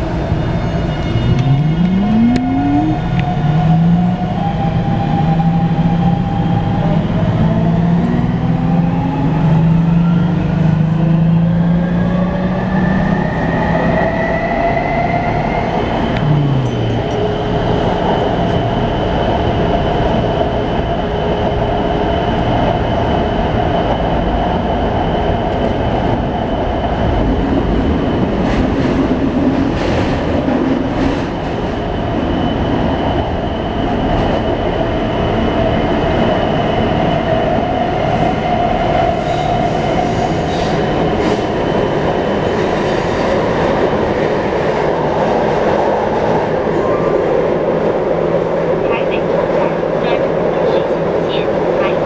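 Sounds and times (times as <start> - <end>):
train wheels rumbling: 0.0 - 52.0.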